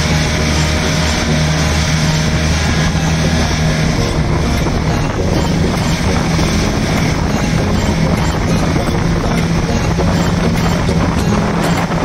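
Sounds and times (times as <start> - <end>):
boat engine humming: 0.0 - 12.0
water and air rushing: 0.0 - 12.0.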